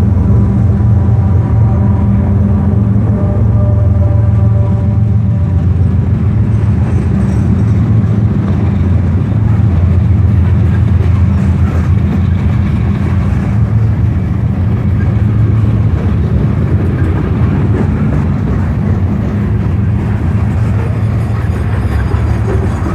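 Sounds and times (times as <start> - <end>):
train rumbling on rails: 0.0 - 22.9.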